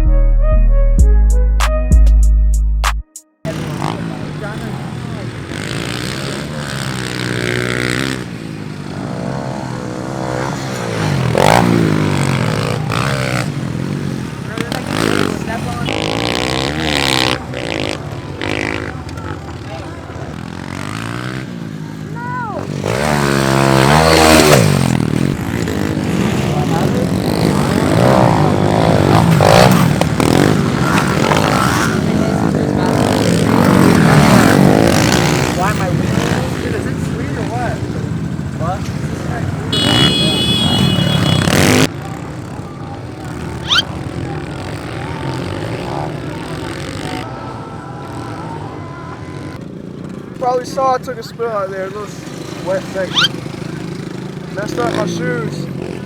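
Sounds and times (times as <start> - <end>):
small motorbike engines revving: 3.4 - 56.0.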